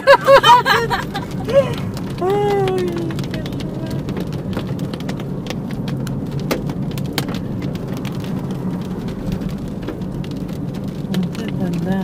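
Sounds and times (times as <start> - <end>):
engine and road hum: 0.0 - 12.0
rain and hail on a car: 0.0 - 12.0.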